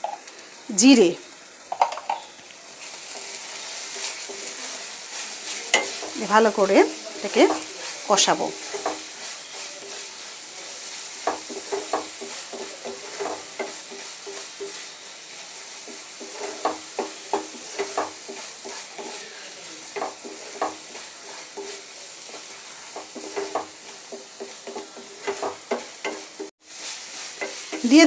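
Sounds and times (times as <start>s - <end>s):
spice paste sizzling in oil: 0.0s - 28.0s
spatula scraping a pan: 2.8s - 28.0s.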